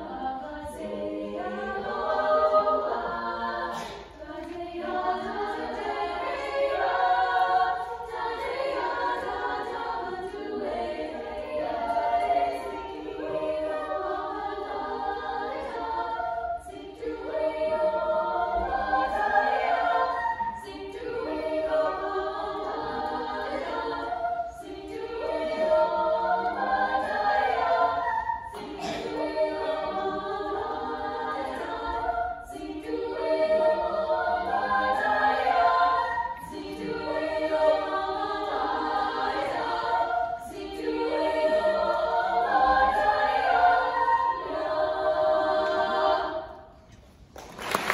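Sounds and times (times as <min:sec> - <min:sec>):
girls' choir singing: 0:00.0 - 0:47.9.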